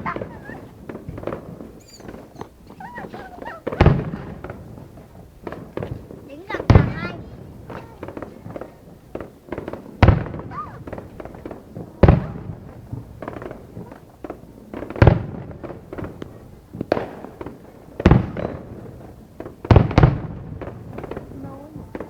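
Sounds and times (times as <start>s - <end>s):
crackling pops: 0.0s - 22.0s
firework shells booming: 0.0s - 22.0s.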